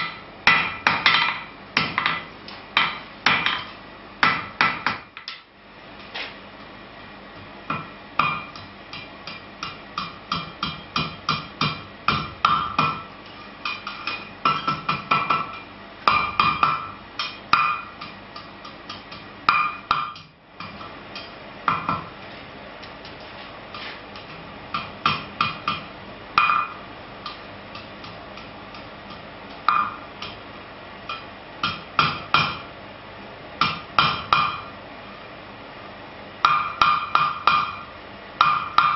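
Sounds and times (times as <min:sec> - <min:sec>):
hammer striking iron on anvil: 0:00.0 - 0:05.4, 0:07.7 - 0:22.1, 0:24.2 - 0:30.4, 0:31.1 - 0:32.7, 0:33.6 - 0:34.7, 0:36.4 - 0:38.9.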